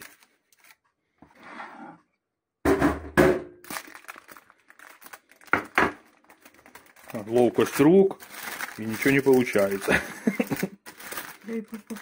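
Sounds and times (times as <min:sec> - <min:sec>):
baking parchment rustling: 0:00.0 - 0:01.4, 0:03.6 - 0:12.0.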